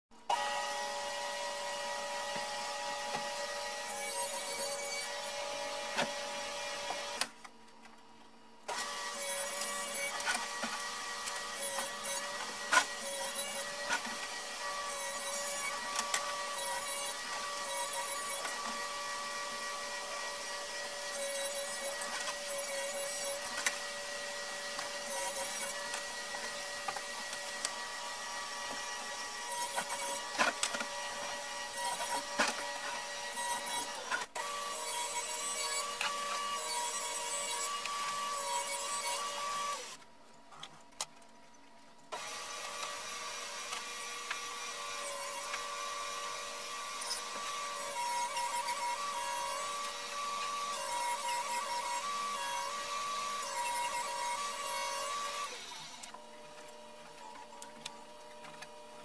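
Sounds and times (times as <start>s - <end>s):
table saw whining: 0.3s - 7.4s, 8.7s - 40.0s, 42.1s - 58.6s.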